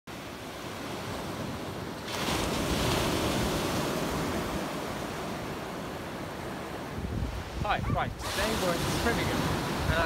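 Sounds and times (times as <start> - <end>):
small waves breaking on beach: 0.1 - 10.0.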